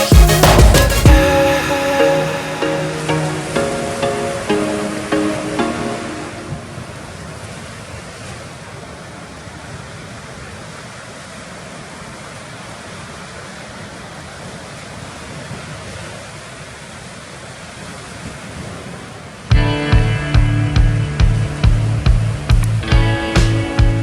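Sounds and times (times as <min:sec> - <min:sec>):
ocean surf washing: 0:00.0 - 0:24.0.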